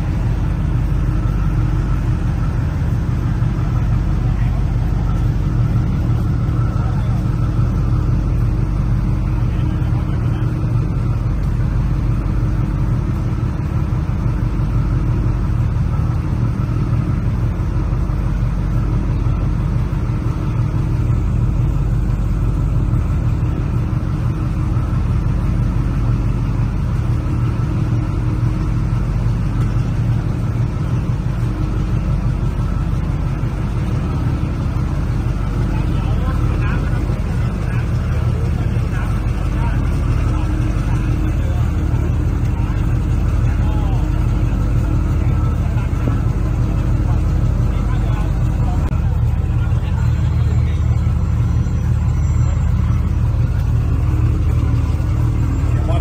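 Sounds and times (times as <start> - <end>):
boat engines running: 0.0 - 56.0.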